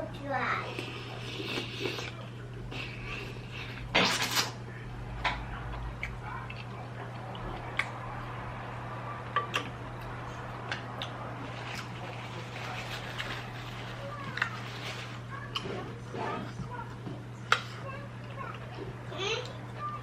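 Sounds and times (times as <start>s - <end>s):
low hum: 2.4s - 20.0s.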